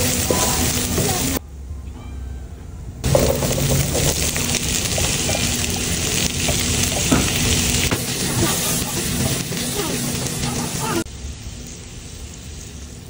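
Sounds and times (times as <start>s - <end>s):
corn and onion sizzling: 0.0s - 1.4s, 3.0s - 13.0s.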